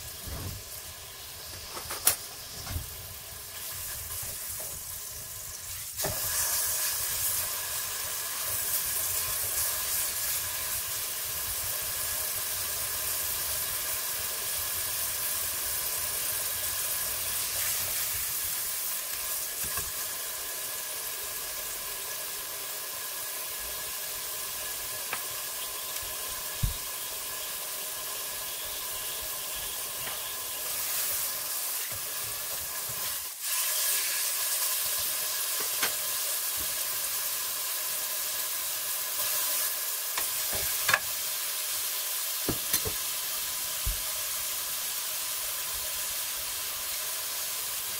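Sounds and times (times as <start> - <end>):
steak sizzling in oil: 0.0 - 47.9.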